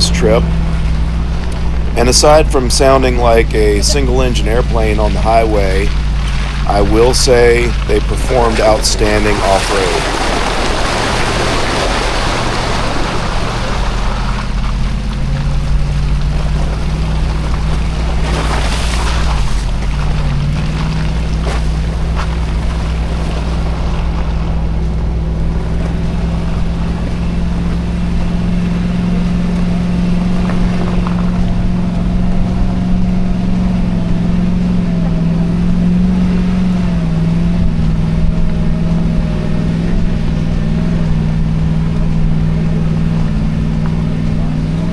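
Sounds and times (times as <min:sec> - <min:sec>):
engine and tyres droning: 0:00.0 - 0:44.9.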